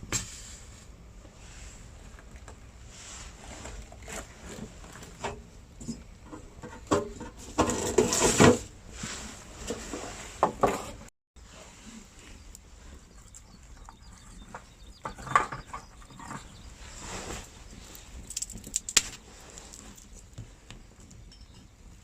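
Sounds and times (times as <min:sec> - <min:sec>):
camp gear and firewood clattering: 0:00.0 - 0:22.0
scraping rustle: 0:00.2 - 0:21.1.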